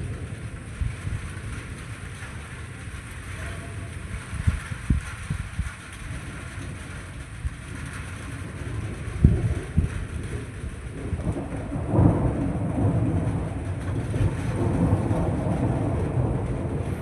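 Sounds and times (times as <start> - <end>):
thunder crack and rumble: 0.0 - 17.0.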